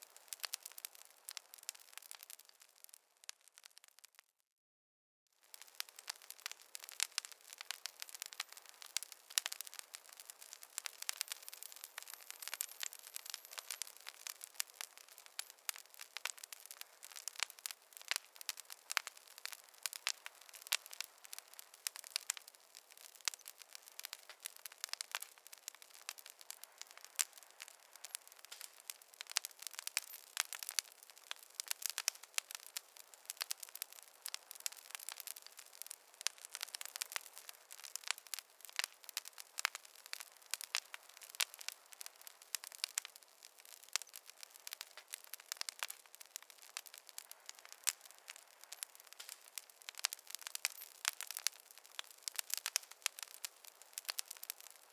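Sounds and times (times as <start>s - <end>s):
campfire crackling and popping: 0.0s - 4.3s, 5.4s - 54.9s.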